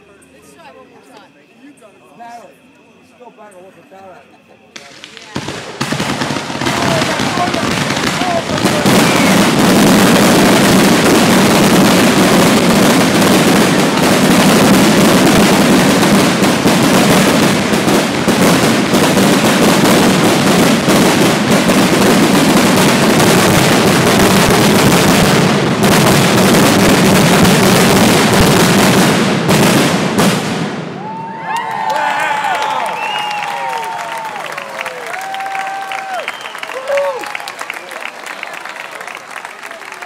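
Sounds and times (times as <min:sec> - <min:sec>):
fireworks bursting and crackling: 0:04.6 - 0:40.0.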